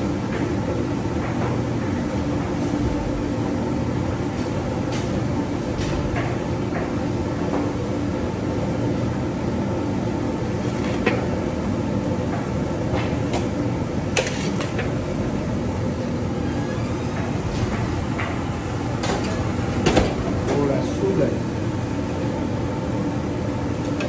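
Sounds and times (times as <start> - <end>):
gas burner roar: 0.0 - 24.0.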